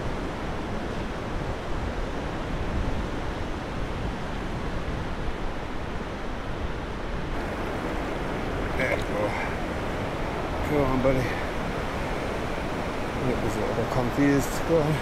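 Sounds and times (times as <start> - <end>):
sea surf on sandy beach: 0.0 - 15.0
wind: 0.0 - 15.0.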